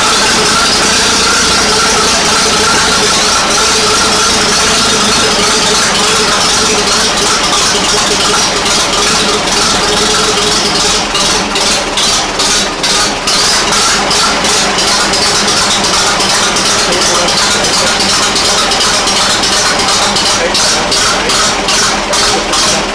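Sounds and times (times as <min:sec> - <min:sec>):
tractor engine rattling: 0:00.0 - 0:22.9.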